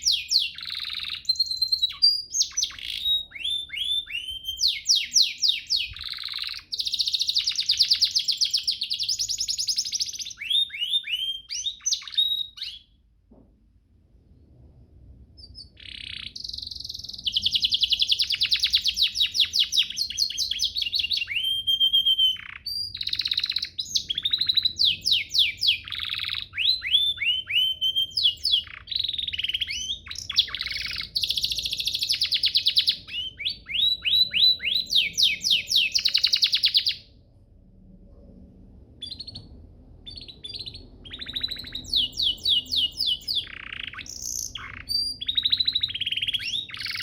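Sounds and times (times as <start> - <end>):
canary singing: 0.0 - 13.0, 15.4 - 37.2, 38.9 - 47.0.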